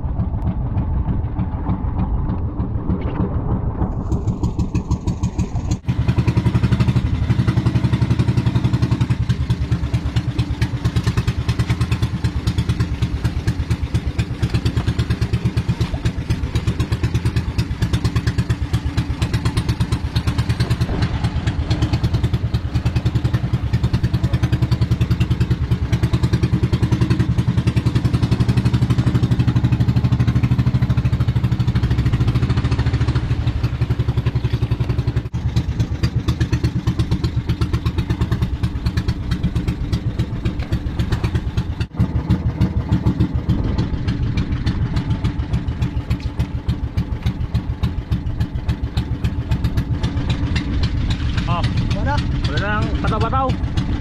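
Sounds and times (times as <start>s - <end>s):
small engine chugging: 0.0s - 54.0s.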